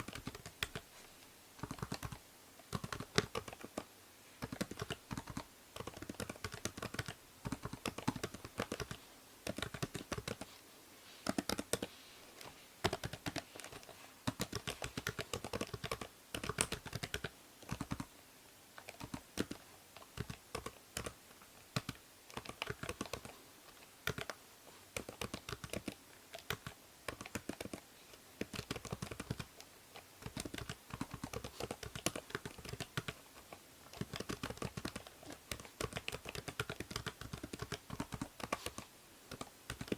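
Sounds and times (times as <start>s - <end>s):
computer keyboard typing: 0.0s - 0.9s, 1.6s - 10.5s, 11.2s - 18.1s, 18.8s - 23.3s, 24.0s - 24.4s, 25.0s - 27.8s, 28.4s - 29.6s, 30.2s - 33.2s, 33.9s - 39.9s
faint steady hiss: 0.0s - 39.9s.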